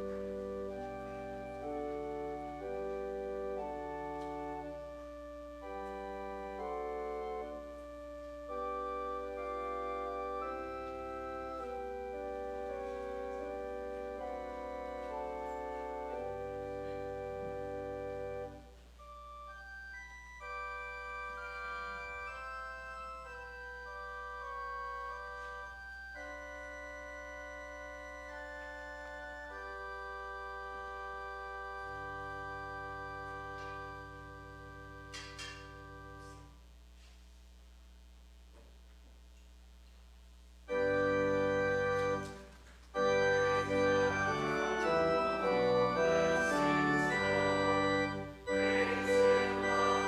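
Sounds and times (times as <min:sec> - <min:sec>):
organ playing held chords: 0:00.0 - 0:36.6, 0:40.7 - 0:50.0.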